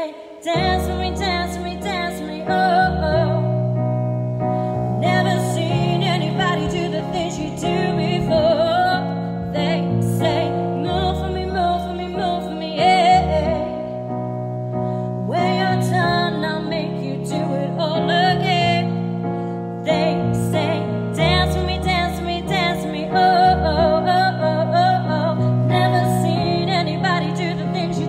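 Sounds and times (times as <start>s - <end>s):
woman singing with vibrato: 0.0s - 3.7s, 4.8s - 14.0s, 15.2s - 19.2s, 19.8s - 28.0s
piano backing track: 0.0s - 28.0s.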